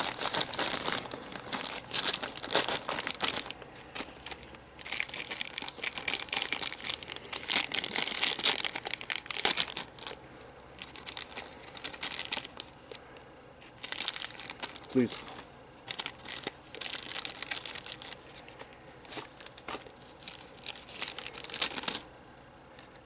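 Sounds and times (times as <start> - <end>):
plastic parts crinkling rustle: 0.0 - 13.0, 13.6 - 22.1.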